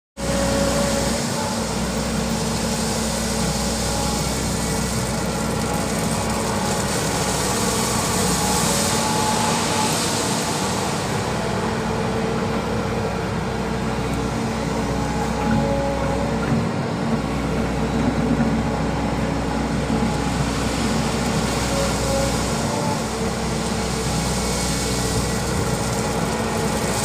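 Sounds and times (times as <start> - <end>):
excavator diesel engine running: 0.2 - 27.0.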